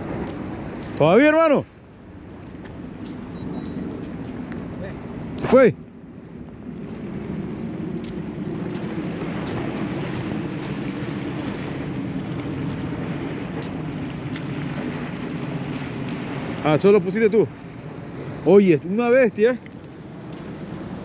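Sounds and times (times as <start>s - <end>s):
sea surf washing against rocks: 0.0s - 3.3s, 3.9s - 21.0s
wind on microphone: 0.0s - 21.0s.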